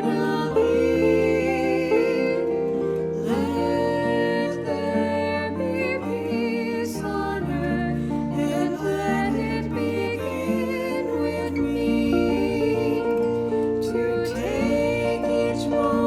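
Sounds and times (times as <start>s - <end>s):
slow gentle instrumental music: 0.0s - 16.0s.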